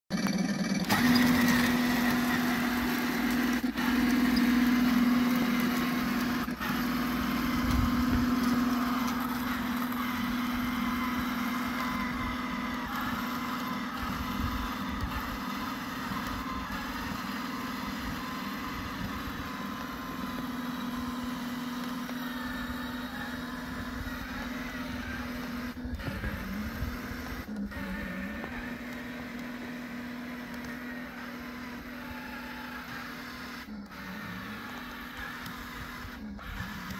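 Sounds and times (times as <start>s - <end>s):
model tank mechanical drone: 0.1s - 36.9s.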